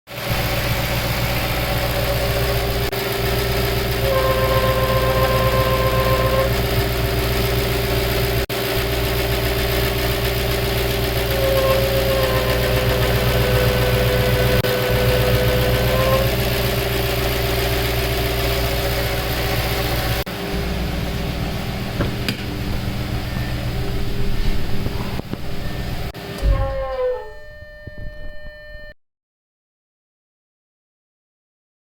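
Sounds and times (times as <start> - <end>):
car engine idling: 0.1 - 26.2
steady honking tone: 0.3 - 8.4, 11.0 - 28.9.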